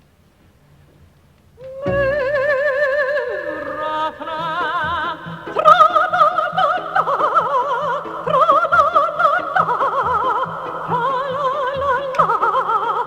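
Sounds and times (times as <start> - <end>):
operatic singing voice with vibrato: 1.6 - 13.0
light musical accompaniment: 1.8 - 13.0.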